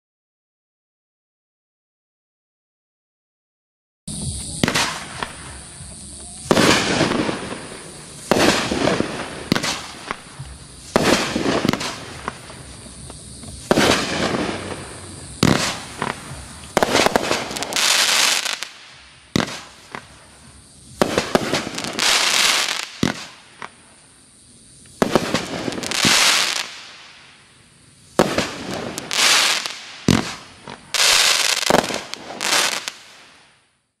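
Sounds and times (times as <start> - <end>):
firework shots and bursts: 4.1 - 23.9, 25.0 - 27.5, 28.1 - 33.8
firework hiss: 4.1 - 34.0.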